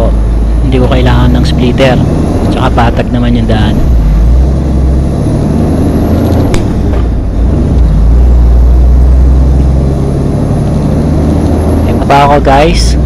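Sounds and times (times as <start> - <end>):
diesel truck engine pulling: 0.0 - 13.0.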